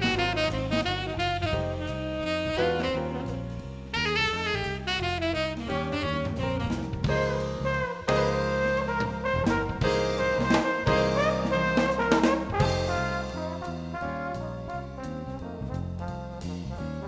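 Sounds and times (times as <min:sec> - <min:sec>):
saxophone melody: 0:00.0 - 0:15.9
drum kit: 0:00.0 - 0:17.0
low bass notes: 0:00.0 - 0:17.0.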